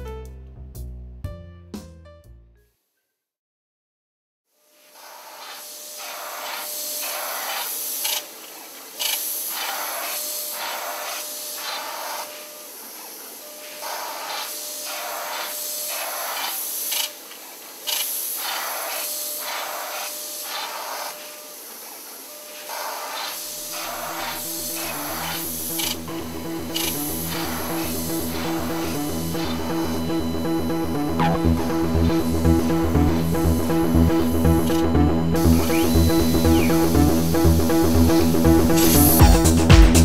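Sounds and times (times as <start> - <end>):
airbrush hissing in bursts: 4.9 - 34.8, 35.4 - 39.6.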